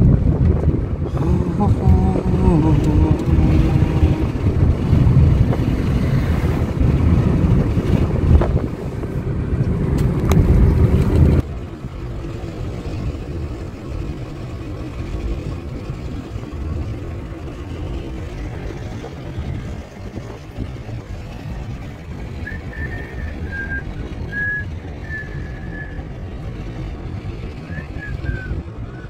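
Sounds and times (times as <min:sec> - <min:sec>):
tyres and engine hum in cabin: 0:00.0 - 0:29.0
wind and road noise: 0:00.0 - 0:29.0.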